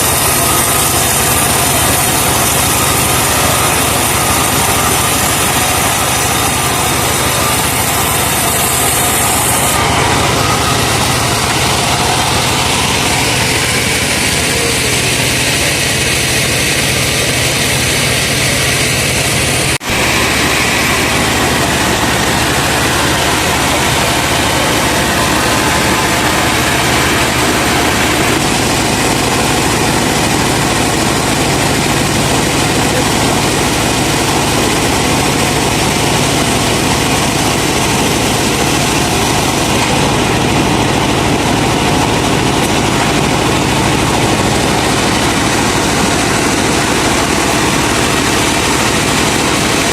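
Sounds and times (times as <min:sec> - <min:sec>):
truck engine driving saw: 0:00.0 - 0:49.9.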